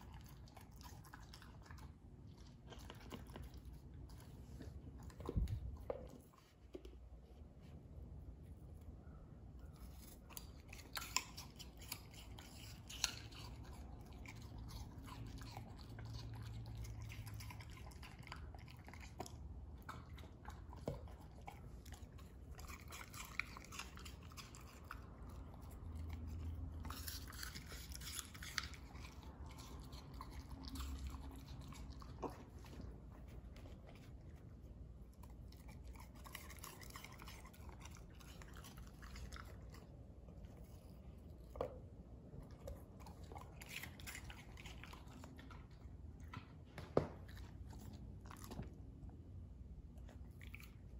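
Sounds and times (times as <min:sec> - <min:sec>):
dog chewing and crunching food: 0:00.0 - 0:50.9.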